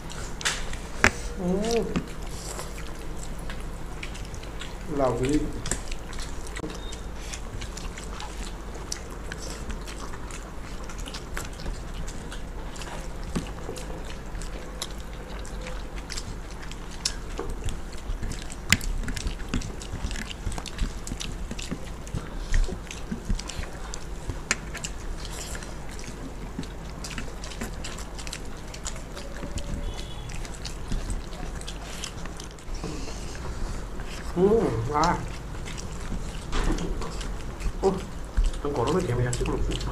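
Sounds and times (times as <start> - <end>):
people chewing and eating: 0.0 - 39.9
steady low hum: 0.0 - 39.9.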